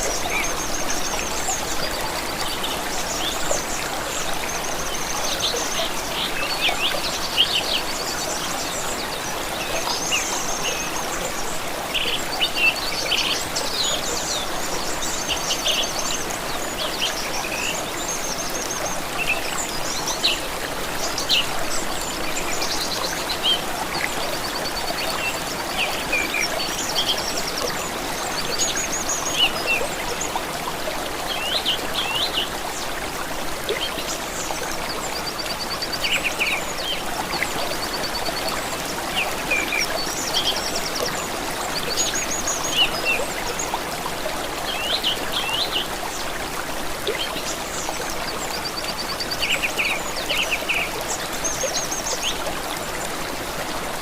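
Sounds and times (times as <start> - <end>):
stream of water running: 0.0 - 54.0.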